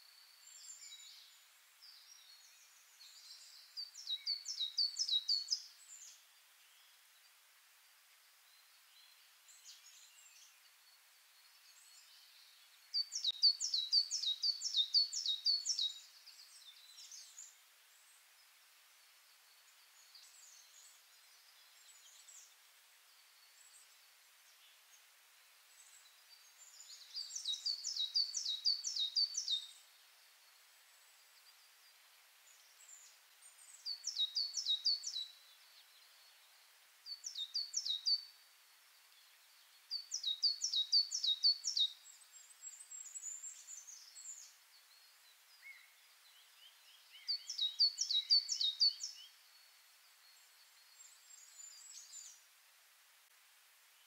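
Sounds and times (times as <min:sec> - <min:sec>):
small bird singing: 0:00.0 - 0:07.5, 0:08.1 - 0:52.6
faint steady hiss: 0:00.0 - 0:54.0.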